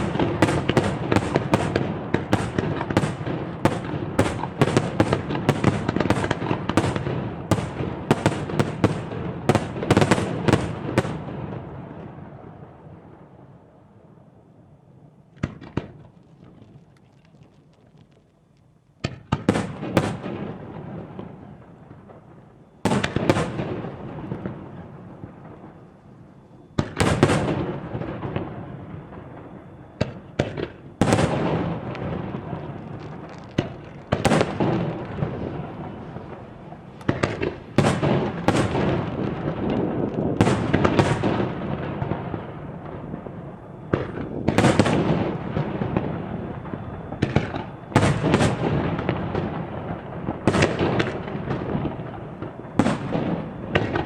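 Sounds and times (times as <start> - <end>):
fireworks bursting with echo: 0.0 - 54.0.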